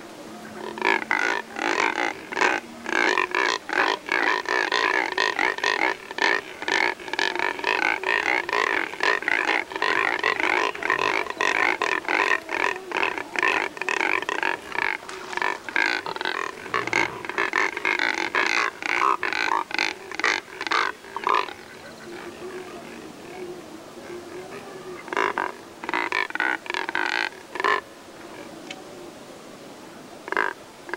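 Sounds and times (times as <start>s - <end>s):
cormorants calling: 0.0s - 28.6s, 30.2s - 30.9s.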